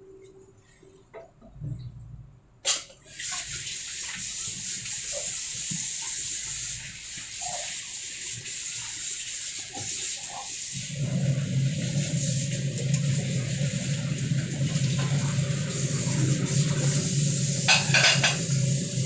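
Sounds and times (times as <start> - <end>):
water running from tap: 2.7 - 19.0.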